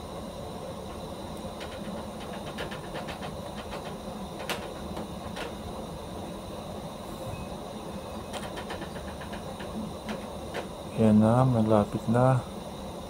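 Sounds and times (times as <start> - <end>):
engine-room machinery hum: 0.0 - 13.0.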